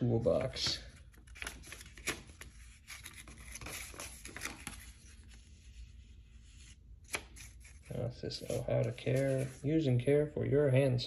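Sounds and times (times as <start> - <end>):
paper rustling: 0.6 - 10.0.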